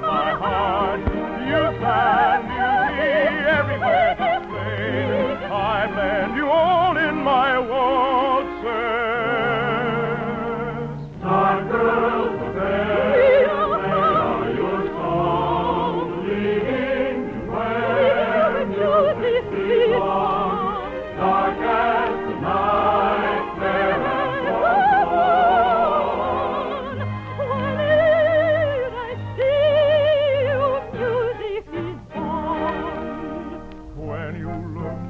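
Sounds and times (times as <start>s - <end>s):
operetta singing with vibrato: 0.0s - 35.0s
orchestra playing: 0.0s - 35.0s.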